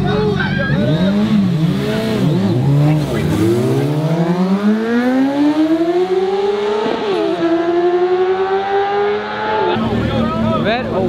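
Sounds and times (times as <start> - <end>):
motorcycle accelerating whine: 0.0 - 11.0
motorcycle engines revving: 0.0 - 11.0.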